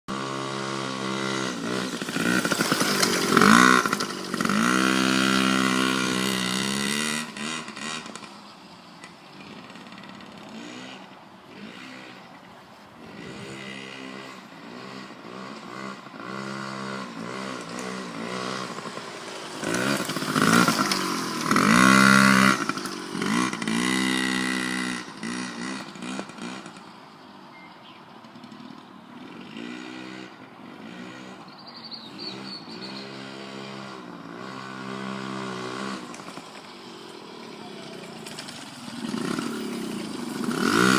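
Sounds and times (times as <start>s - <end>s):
dirt bike engine revving: 0.1s - 8.4s, 9.3s - 12.4s, 13.0s - 26.9s, 28.3s - 40.9s.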